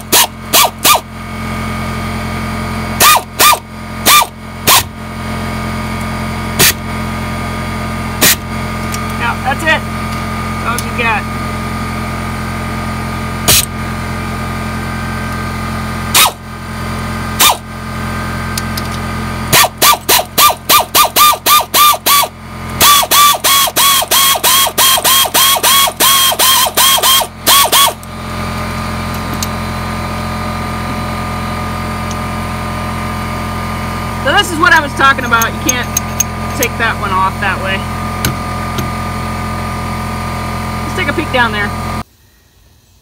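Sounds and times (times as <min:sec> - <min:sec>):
steady motor drone: 0:00.0 - 0:43.0.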